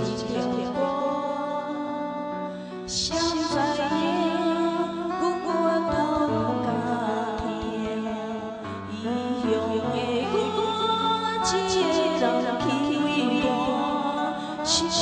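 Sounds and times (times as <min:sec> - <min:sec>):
person singing wavering notes: 0:00.0 - 0:15.0.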